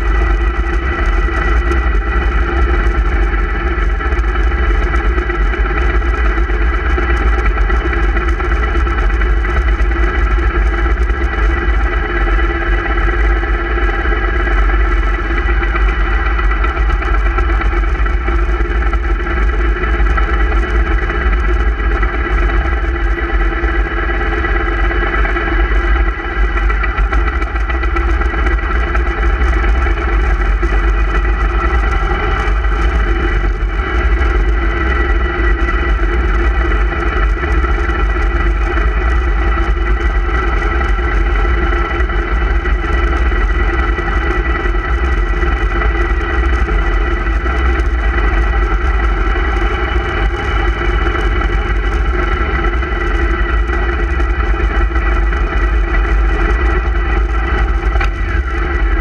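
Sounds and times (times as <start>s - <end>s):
motorcycle engine running: 0.0s - 59.0s
wind rumbling on microphone: 0.0s - 59.0s.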